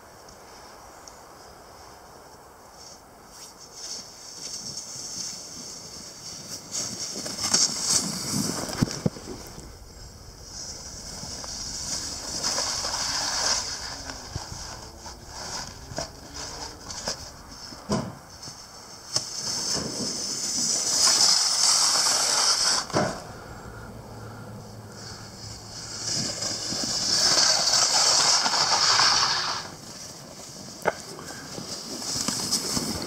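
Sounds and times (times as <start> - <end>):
snowboard scraping over snow: 2.8 - 23.5, 25.0 - 33.0.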